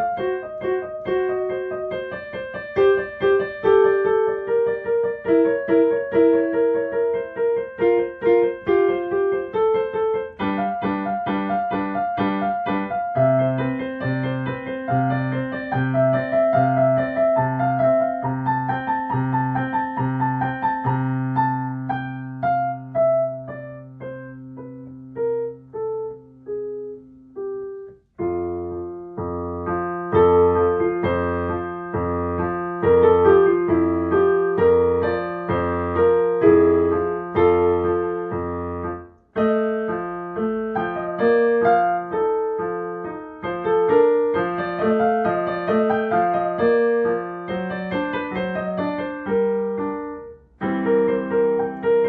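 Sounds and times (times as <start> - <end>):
digital piano piece: 0.0 - 52.0.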